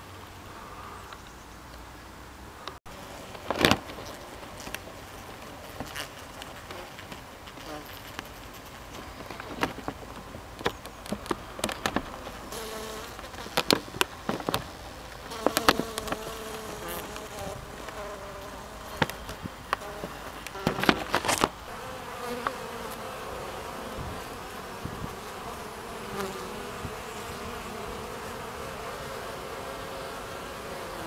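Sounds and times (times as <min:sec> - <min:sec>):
bees buzzing: 0:02.7 - 0:31.0.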